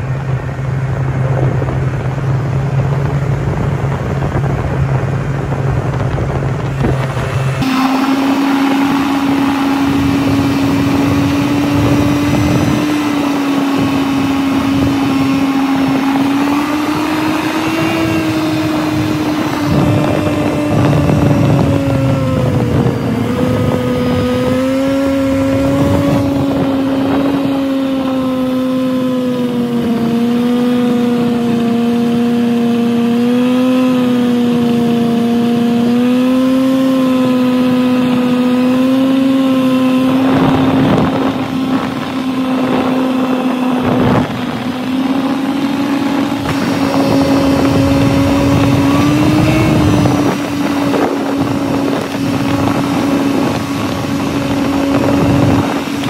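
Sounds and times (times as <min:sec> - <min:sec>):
snowmobile engine whine: 0:00.0 - 0:56.0
wind rumble on microphone: 0:00.0 - 0:56.0.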